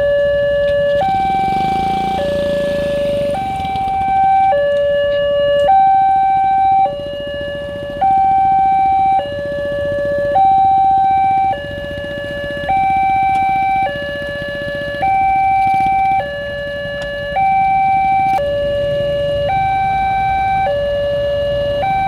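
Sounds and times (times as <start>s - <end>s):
two-tone crossing alarm: 0.0s - 22.0s.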